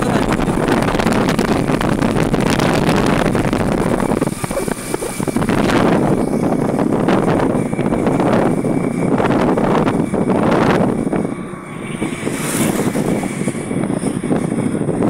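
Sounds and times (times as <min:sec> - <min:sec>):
vehicle engine and tyres on road: 0:00.0 - 0:15.0
wind buffeting microphone: 0:00.0 - 0:15.0.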